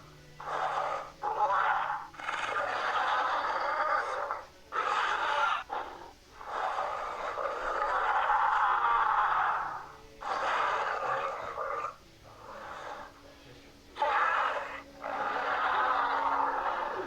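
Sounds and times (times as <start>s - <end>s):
breathy hissing growls: 0.0s - 17.0s.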